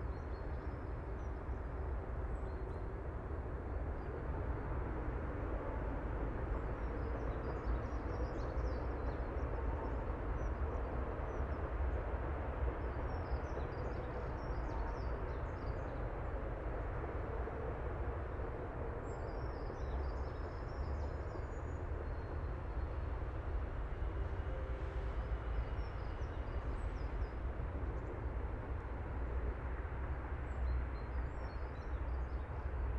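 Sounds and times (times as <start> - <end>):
wind: 0.0 - 32.9.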